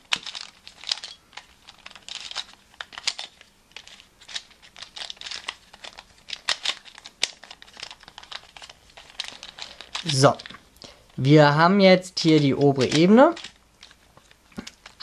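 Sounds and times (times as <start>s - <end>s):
plastic puzzle pieces clicking: 0.0s - 10.6s, 12.2s - 15.0s.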